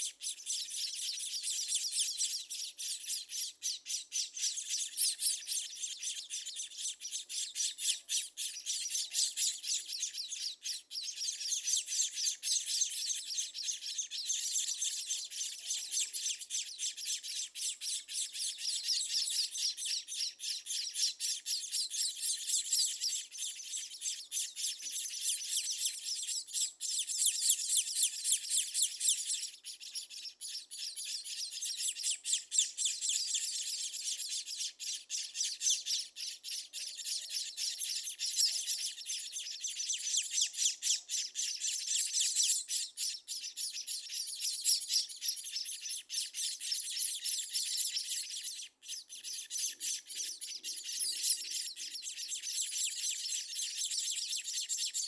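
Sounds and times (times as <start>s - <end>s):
small birds chirping rapidly: 0.0s - 55.0s.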